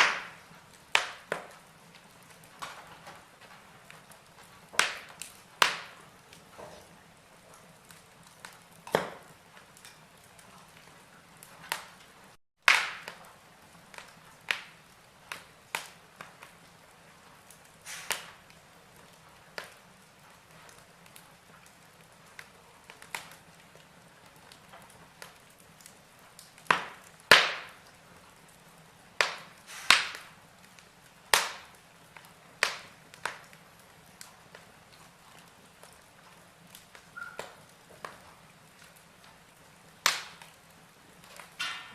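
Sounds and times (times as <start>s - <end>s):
faint steady hiss: 0.0s - 41.9s
logs crackling in fireplace: 0.0s - 41.9s.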